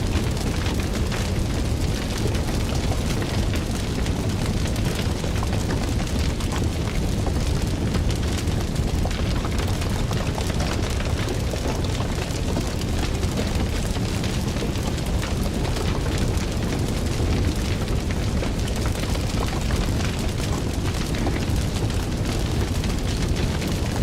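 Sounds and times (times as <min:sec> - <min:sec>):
fire crackles and pops: 0:00.0 - 0:24.0
low roar of flames: 0:00.0 - 0:24.0.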